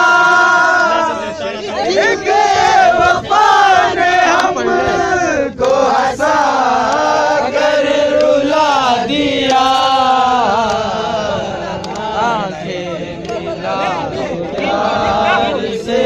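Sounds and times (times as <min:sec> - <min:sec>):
group of men singing: 0:00.0 - 0:16.0.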